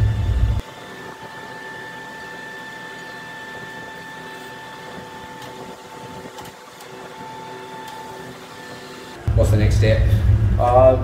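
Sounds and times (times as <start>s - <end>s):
constant high whine: 0.0s - 11.0s
workshop machinery humming: 0.0s - 11.0s.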